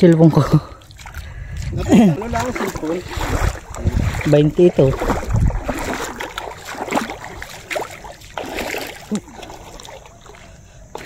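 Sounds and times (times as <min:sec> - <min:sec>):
muddy water sloshing and splashing: 0:00.0 - 0:11.0.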